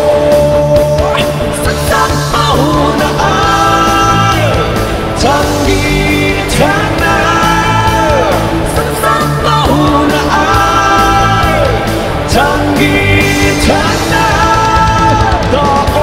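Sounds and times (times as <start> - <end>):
band playing: 0.0 - 16.0
person singing long notes: 0.0 - 16.0.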